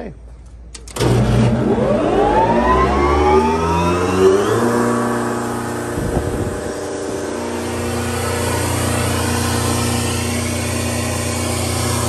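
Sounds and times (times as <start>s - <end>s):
air compressor motor whine: 0.6s - 12.0s.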